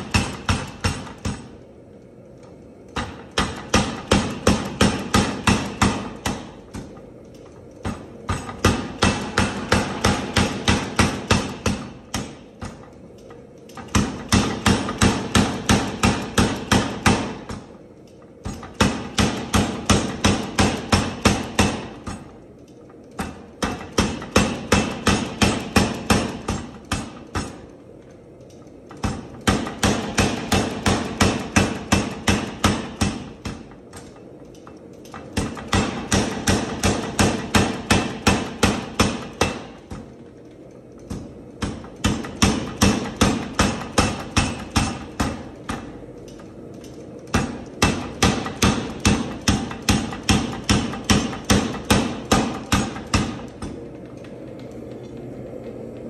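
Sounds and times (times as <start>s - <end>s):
power hammer pounding metal bar: 0.0s - 1.6s, 3.0s - 7.0s, 7.8s - 12.9s, 13.8s - 17.8s, 18.4s - 22.4s, 23.2s - 27.7s, 28.9s - 34.2s, 35.1s - 40.2s, 41.0s - 46.0s, 47.3s - 53.8s.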